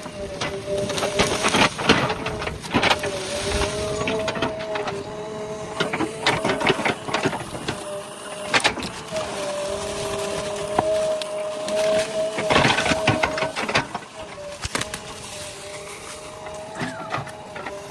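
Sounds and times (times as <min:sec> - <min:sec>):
backhoe loader engine drone: 0:00.0 - 0:17.9.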